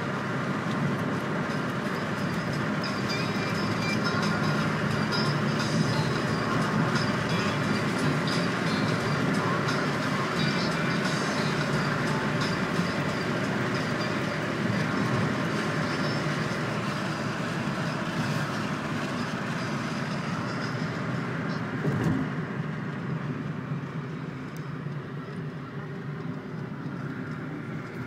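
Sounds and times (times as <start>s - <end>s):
car engine and exhaust: 0.0s - 28.0s
road noise: 0.0s - 28.0s.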